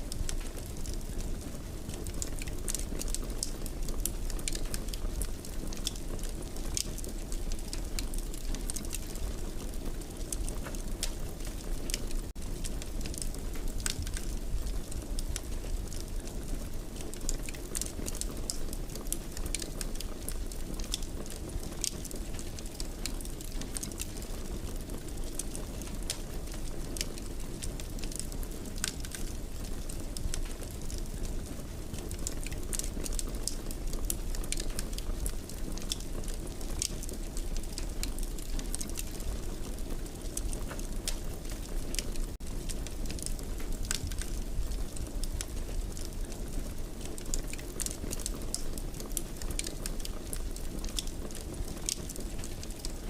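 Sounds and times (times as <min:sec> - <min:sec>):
fire crackling and popping: 0:00.0 - 0:53.0
wood fire burning: 0:00.0 - 0:53.0.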